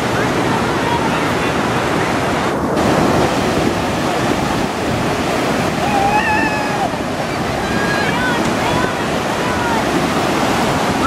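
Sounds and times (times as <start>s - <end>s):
ocean surf breaking: 0.0s - 11.0s
wind on microphone: 0.0s - 11.0s.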